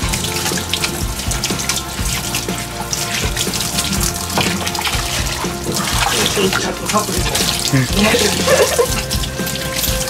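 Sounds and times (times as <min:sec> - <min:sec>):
background music with beat: 0:00.0 - 0:10.0
water spraying from shower hose: 0:00.0 - 0:10.0.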